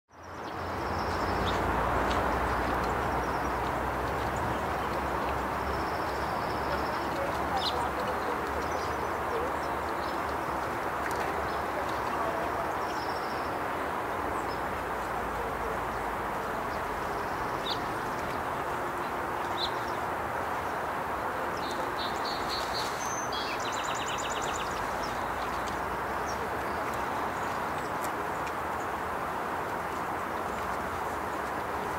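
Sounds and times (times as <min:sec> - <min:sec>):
songbirds chirping: 0:00.1 - 0:31.9.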